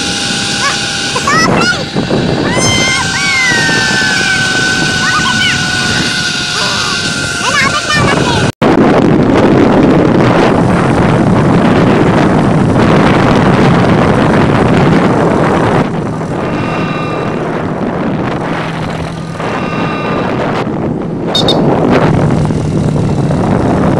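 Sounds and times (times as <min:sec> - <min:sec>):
motorcycle engine running: 0:00.0 - 0:23.9
wind rushing over microphone: 0:00.0 - 0:23.9.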